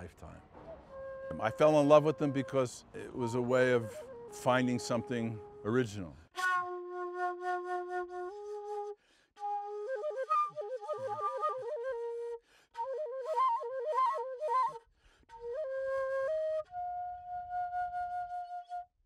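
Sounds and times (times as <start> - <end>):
breathy flute melody: 0.6 - 19.0.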